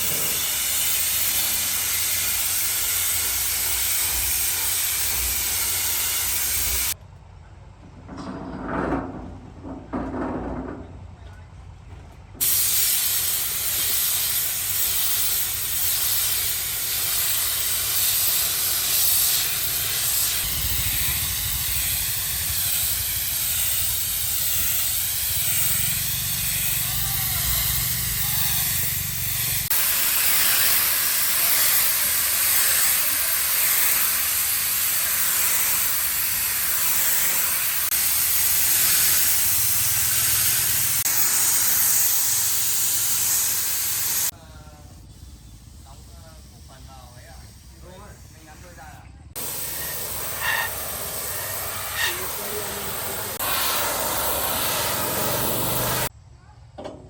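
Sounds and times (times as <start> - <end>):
pressurised spray hissing: 0.0 - 7.0, 12.4 - 56.1.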